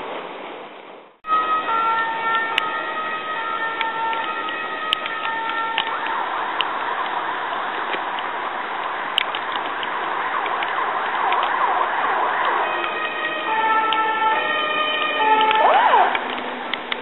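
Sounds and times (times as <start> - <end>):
heavy rain: 0.0 - 17.0
distant siren wailing: 1.2 - 17.0.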